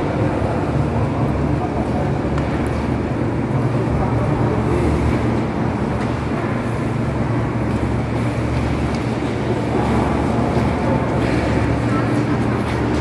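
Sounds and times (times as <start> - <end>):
low hum of parked electric train: 0.0 - 13.0.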